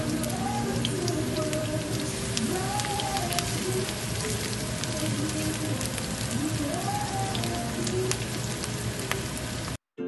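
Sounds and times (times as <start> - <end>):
background music: 0.0 - 9.8
onion sizzling in hot oil: 0.0 - 9.8.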